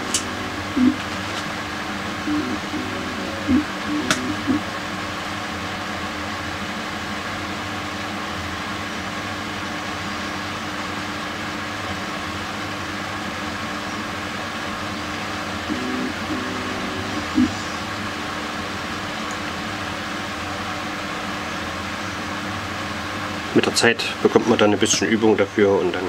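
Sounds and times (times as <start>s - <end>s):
mechanical hum and hiss: 0.0s - 26.0s.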